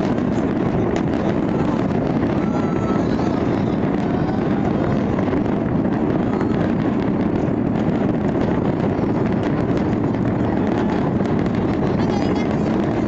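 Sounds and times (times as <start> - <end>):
fireworks bangs and crackles: 0.0 - 13.0
wind noise on microphone: 0.0 - 13.0.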